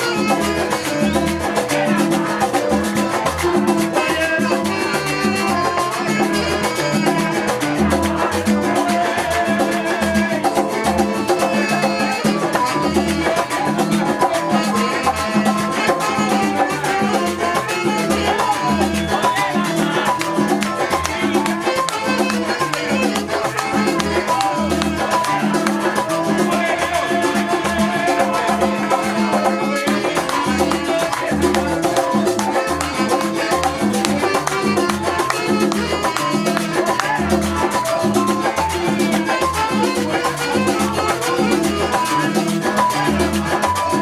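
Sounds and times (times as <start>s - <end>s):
salsa dance music: 0.0s - 44.0s.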